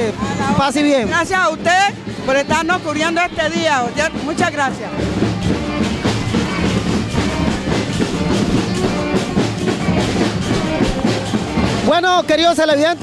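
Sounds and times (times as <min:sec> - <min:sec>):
band music: 0:00.0 - 0:13.0
driving drum beat: 0:00.0 - 0:13.0.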